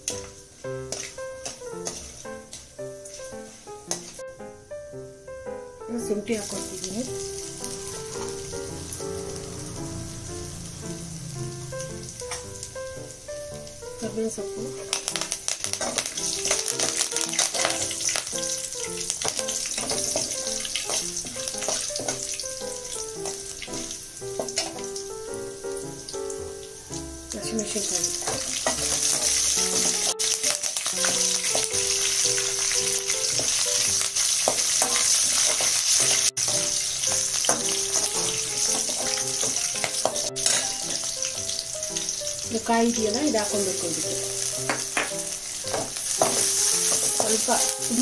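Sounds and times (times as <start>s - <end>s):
spices sizzling in hot oil: 0.0s - 48.0s.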